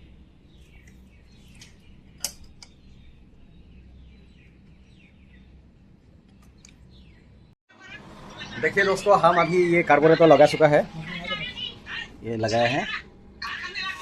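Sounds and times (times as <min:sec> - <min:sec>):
birds chirping: 0:00.0 - 0:14.0
low background hum: 0:00.0 - 0:14.0.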